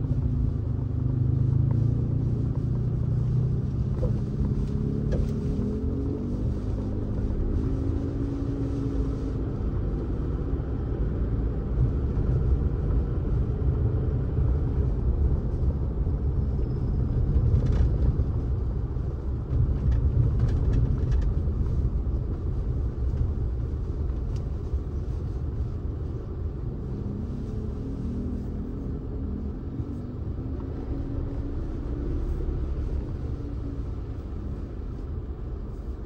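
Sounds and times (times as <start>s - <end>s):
car driving rumble: 0.0s - 36.0s.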